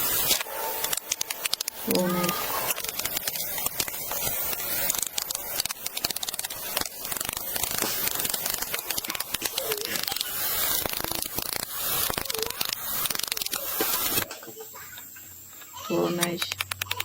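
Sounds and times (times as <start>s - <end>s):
crackling and rustling: 0.0s - 17.0s
steady hiss: 0.0s - 17.0s.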